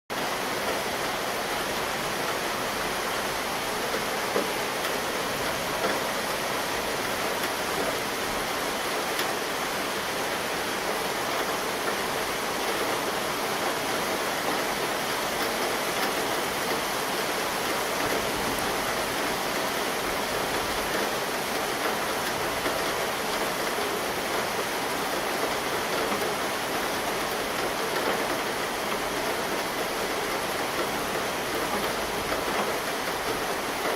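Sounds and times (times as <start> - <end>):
rain falling steadily: 0.1 - 33.9.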